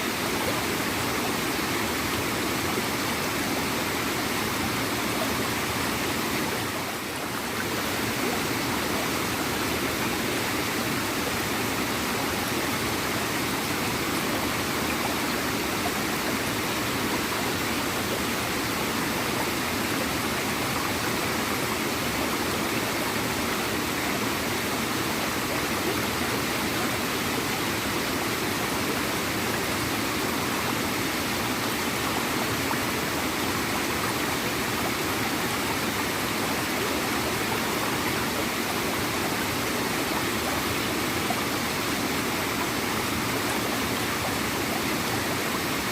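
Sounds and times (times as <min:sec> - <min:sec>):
small waterfall rushing: 0:00.0 - 0:45.9.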